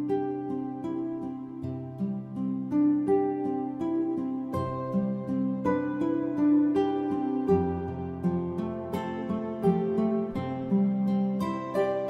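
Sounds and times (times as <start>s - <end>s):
plucked-string background music: 0.0s - 12.0s.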